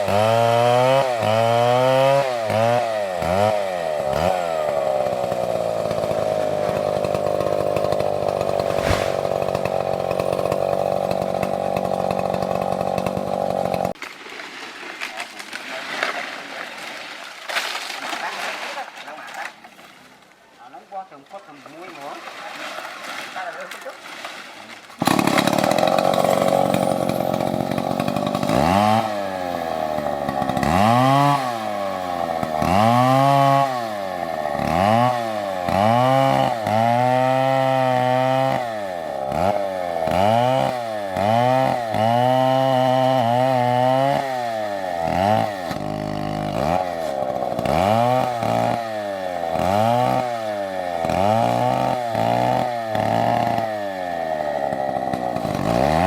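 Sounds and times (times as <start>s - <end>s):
chainsaw cutting a tree: 0.0s - 14.1s, 24.9s - 56.0s.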